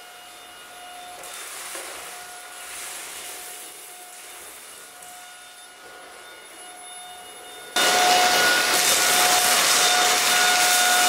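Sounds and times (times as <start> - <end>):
stick vacuum motor whine: 0.0 - 11.0.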